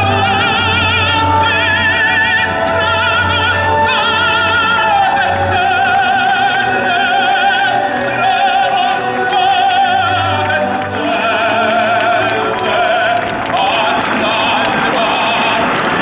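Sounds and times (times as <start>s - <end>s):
operatic singing: 0.0s - 16.0s
orchestra playing: 0.0s - 16.0s.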